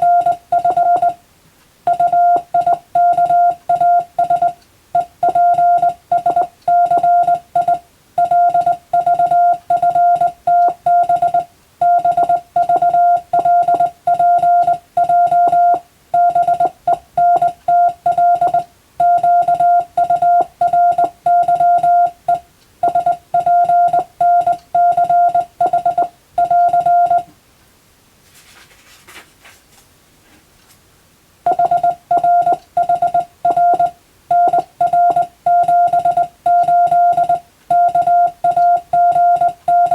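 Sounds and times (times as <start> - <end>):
morse code beeps: 0.0 - 1.2, 1.9 - 27.3, 31.5 - 39.9.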